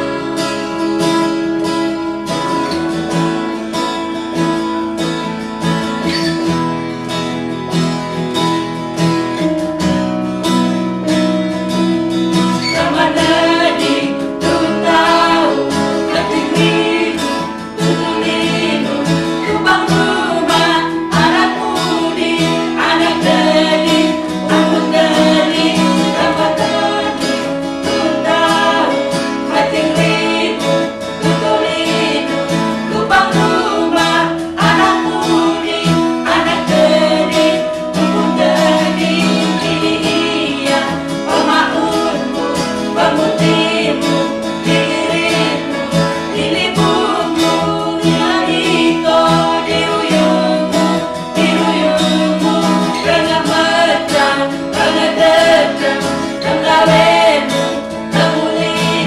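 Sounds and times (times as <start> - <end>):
held keyboard chords: 0.0 - 59.0
strummed acoustic guitar: 0.0 - 59.0
women singing a hymn: 11.0 - 59.0.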